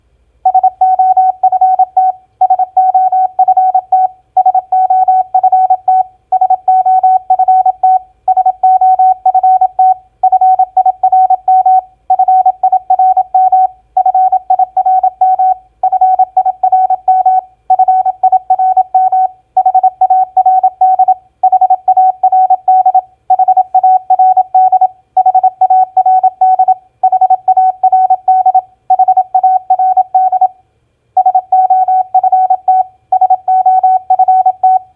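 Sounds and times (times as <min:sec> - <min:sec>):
morse code beeps: 0:00.5 - 0:30.5, 0:31.2 - 0:34.9.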